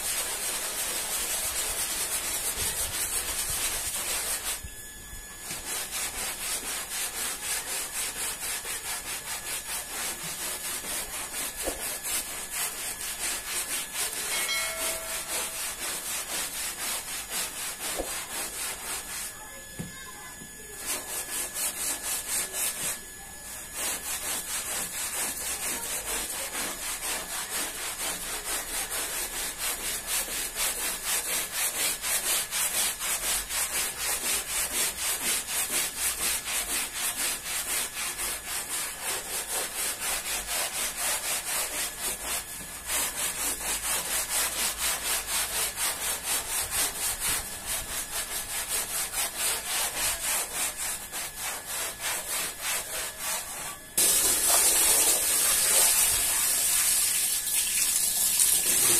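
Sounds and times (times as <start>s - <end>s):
brush scrubbing wet rug: 0.0s - 4.7s, 5.4s - 58.9s.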